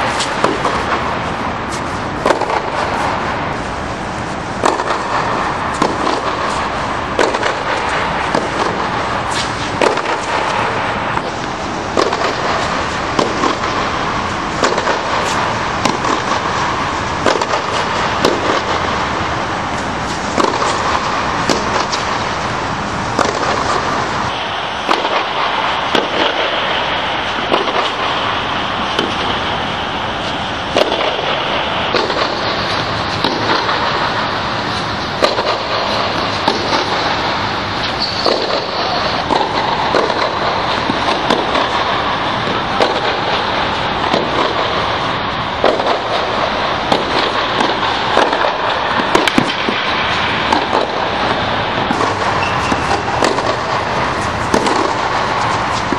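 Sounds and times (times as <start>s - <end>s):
steady hiss: 0.0s - 55.9s
tennis balls hit and bouncing: 0.0s - 55.9s.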